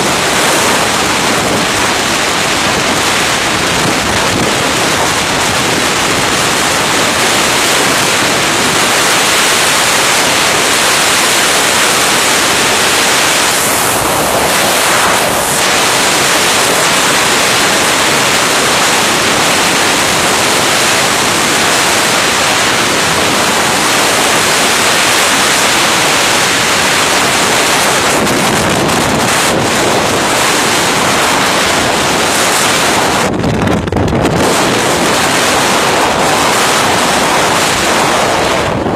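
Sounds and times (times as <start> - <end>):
strong wind on microphone: 0.0 - 38.9.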